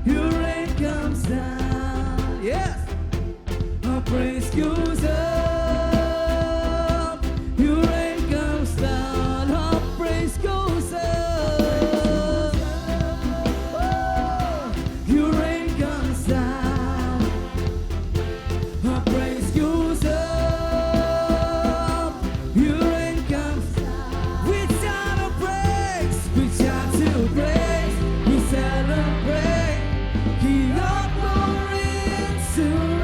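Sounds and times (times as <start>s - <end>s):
bass guitar: 0.0s - 33.0s
drum kit: 0.0s - 33.0s
worship band playing upbeat song: 0.0s - 33.0s.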